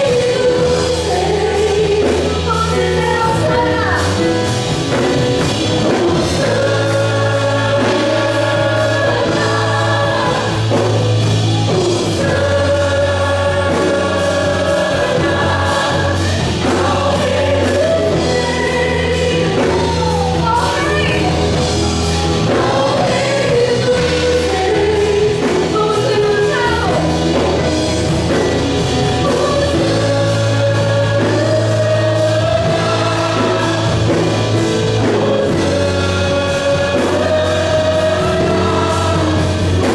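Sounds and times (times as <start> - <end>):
band playing: 0.0 - 39.9
group of voices singing: 0.0 - 39.9.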